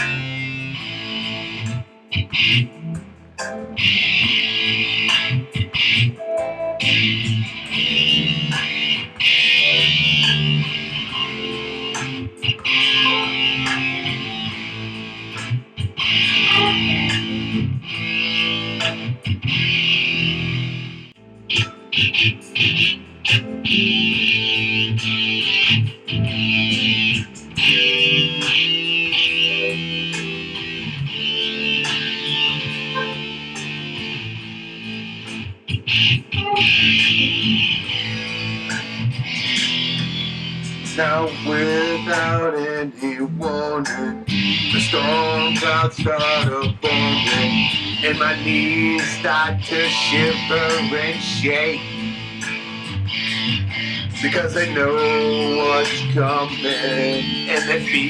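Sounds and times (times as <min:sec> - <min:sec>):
guitar playing chords: 0:00.0 - 0:58.0.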